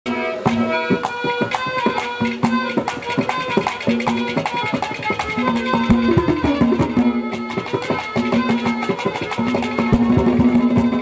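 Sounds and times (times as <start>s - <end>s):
hand drum strokes: 0.1s - 11.0s
harmonium holding notes: 0.1s - 11.0s.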